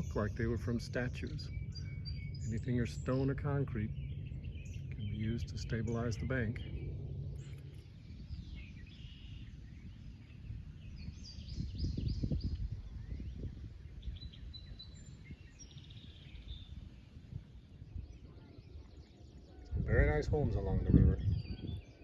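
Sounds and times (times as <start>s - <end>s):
birds chirping: 0.0s - 22.0s
low rumbling outdoor noise: 0.0s - 22.0s.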